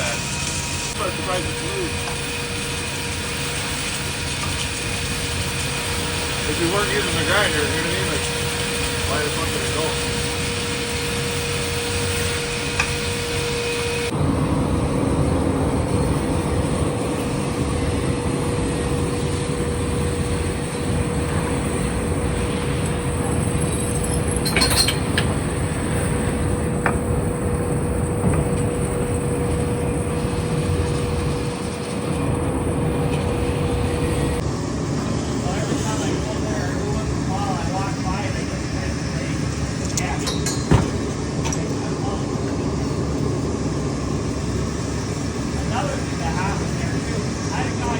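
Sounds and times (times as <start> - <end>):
welding machine hum: 0.0 - 47.9.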